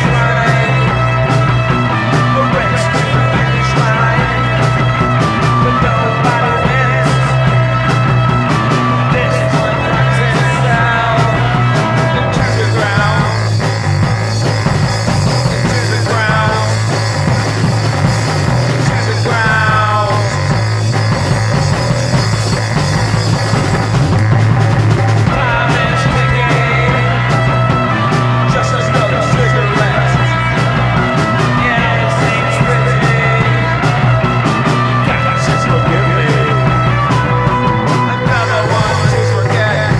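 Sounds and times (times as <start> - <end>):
drums keeping a beat: 0.0 - 39.9
guitar and synth tones: 0.0 - 39.9
held bass note: 0.0 - 39.9
punk rock band playing: 0.0 - 39.9.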